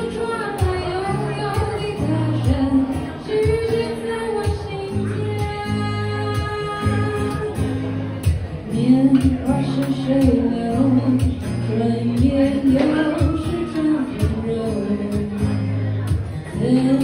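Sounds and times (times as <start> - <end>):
woman singing: 0.0 - 7.6, 8.7 - 15.7, 16.4 - 17.0
acoustic guitar chords: 0.0 - 17.0.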